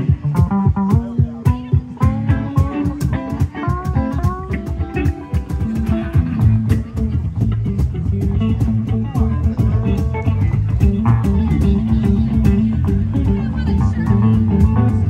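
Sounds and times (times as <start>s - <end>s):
blues-rock band playing: 0.0s - 15.0s.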